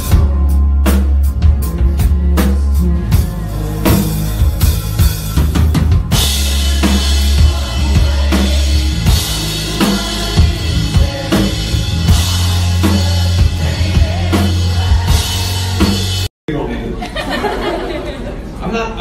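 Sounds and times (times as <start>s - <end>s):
deep bass notes: 0.0s - 16.3s
drum kit kick and snare beat: 0.0s - 16.3s
live rock band playing: 0.0s - 16.3s.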